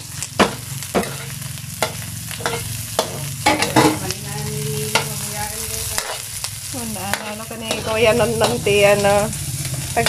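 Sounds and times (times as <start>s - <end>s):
food sizzling in hot oil: 0.0s - 10.0s
metal spatula scraping a wok: 0.5s - 10.0s.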